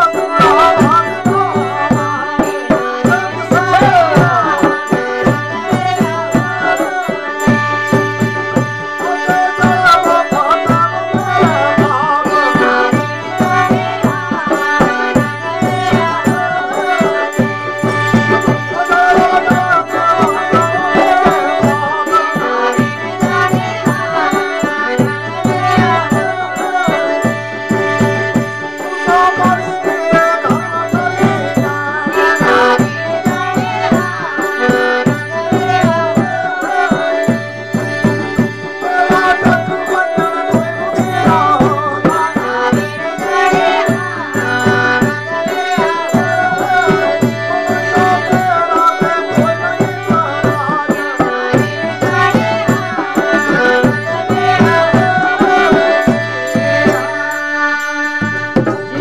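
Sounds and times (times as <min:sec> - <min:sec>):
harmonium drone chords: 0:00.0 - 0:59.0.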